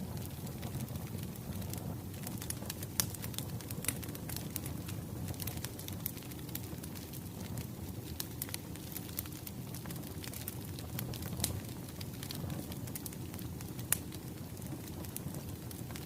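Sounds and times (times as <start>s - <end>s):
fire low rumble: 0.0s - 16.0s
firewood popping and snapping: 0.2s - 16.0s.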